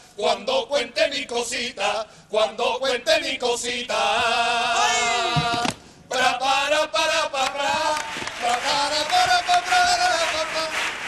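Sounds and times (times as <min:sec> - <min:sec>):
men singing chant-like line: 0:00.2 - 0:11.0.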